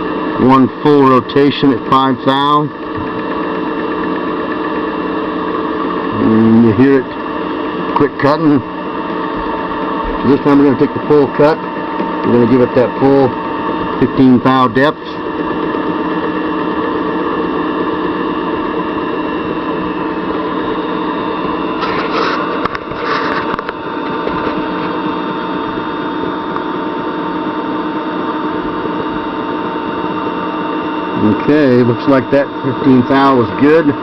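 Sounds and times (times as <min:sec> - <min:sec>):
small machine whining and humming: 0:00.0 - 0:34.0.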